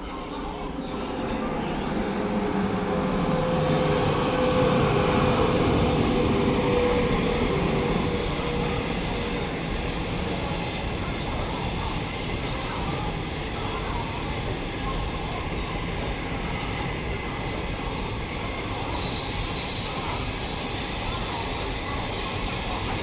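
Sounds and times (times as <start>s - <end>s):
train rushing rumble on rails: 0.0s - 23.0s.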